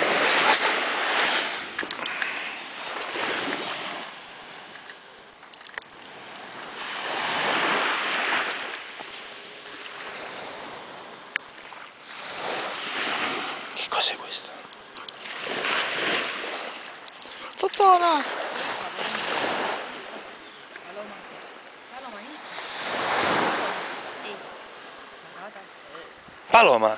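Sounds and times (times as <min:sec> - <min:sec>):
small waves washing up a shore: 0:00.0 - 0:26.9.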